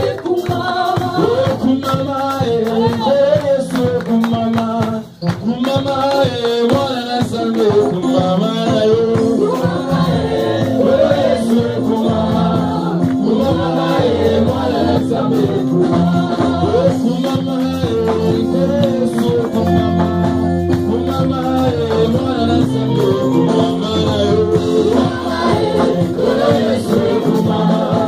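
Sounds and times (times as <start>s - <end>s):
singers singing a chorus: 0.0s - 4.0s, 6.6s - 28.0s
drum kit: 0.0s - 28.0s
electric guitar: 0.0s - 28.0s
keyboard: 0.0s - 28.0s.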